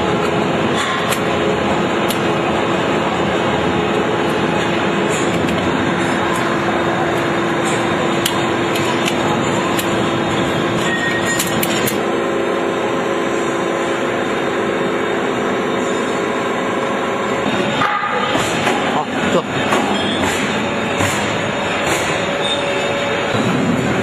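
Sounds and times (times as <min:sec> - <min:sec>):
industrial machinery hum: 0:00.0 - 0:24.0.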